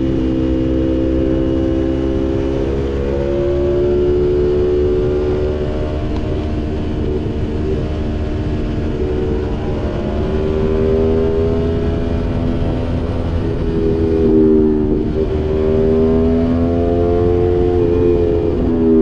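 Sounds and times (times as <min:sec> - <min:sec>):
motorcycle engine under throttle: 0:00.0 - 0:19.0
wind rumble: 0:00.0 - 0:19.0.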